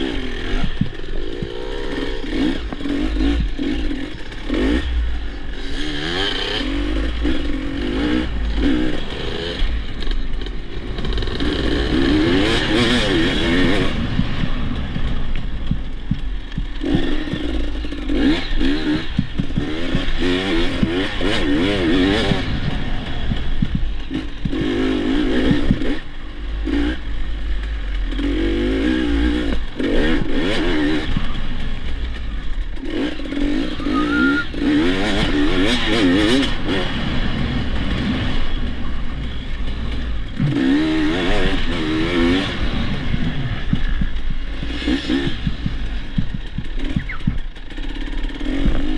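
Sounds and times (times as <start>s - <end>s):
steady low rumble: 0.0s - 21.3s, 22.3s - 28.2s, 36.5s - 48.9s
dirt bike engine revving: 0.0s - 48.9s.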